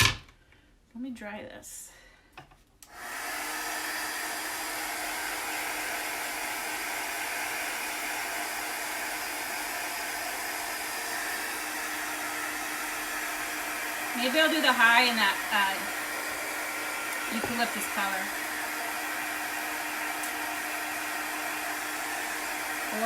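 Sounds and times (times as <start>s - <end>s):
blow dryer blowing air: 2.9s - 23.0s.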